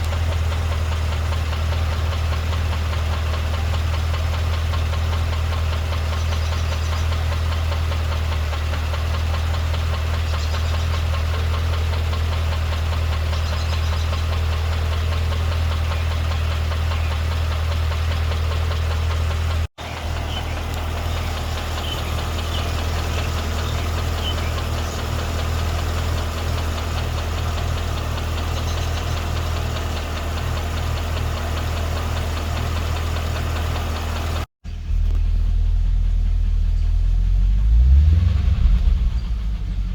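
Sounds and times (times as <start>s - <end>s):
car engine running with ticking knock: 0.0s - 39.9s.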